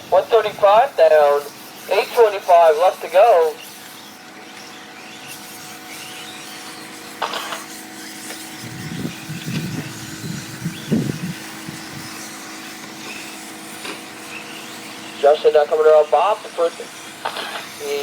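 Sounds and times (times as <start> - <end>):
radio-controlled trucks racing: 0.0 - 18.0.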